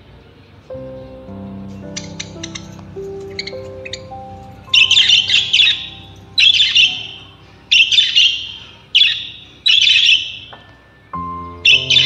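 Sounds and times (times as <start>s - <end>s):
parrots chirping: 0.8s - 10.6s, 11.6s - 12.0s.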